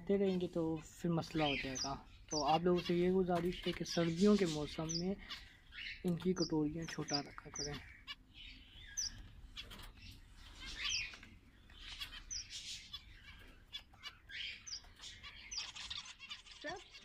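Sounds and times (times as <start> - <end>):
lovebirds chirping: 0.0 - 17.0.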